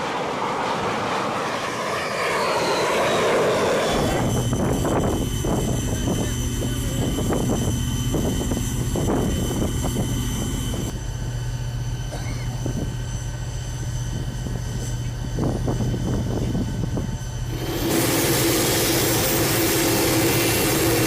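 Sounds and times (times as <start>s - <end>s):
aircraft engines humming and whining: 0.0s - 21.0s.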